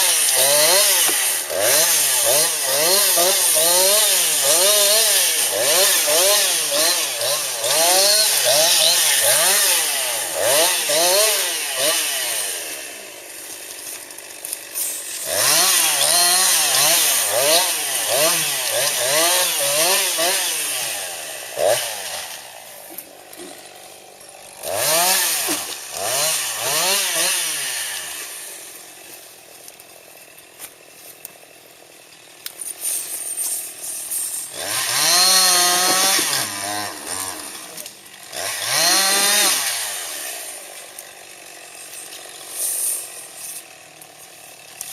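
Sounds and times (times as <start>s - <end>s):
chainsaw idling: 0.0s - 44.9s
chainsaw revving: 0.0s - 44.9s.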